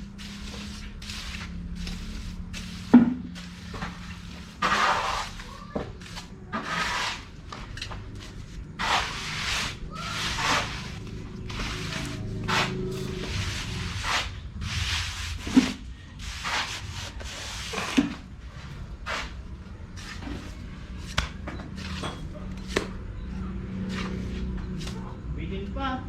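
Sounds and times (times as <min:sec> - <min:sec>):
tool scraping wet concrete: 0:00.1 - 0:21.3.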